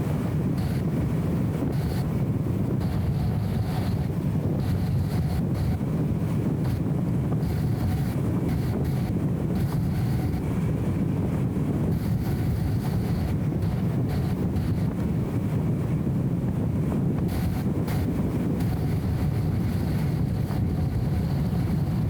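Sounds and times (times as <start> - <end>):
muffled car engine drone: 0.0 - 22.0.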